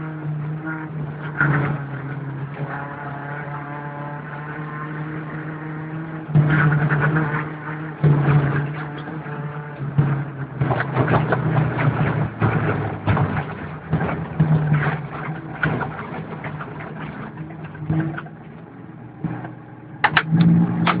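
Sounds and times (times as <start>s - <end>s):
car engine from inside cabin: 0.0s - 21.0s.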